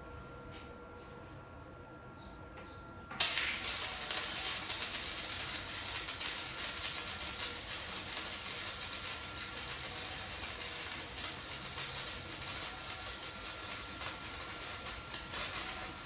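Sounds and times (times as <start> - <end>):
welding arc crackling hiss: 3.1 - 16.0.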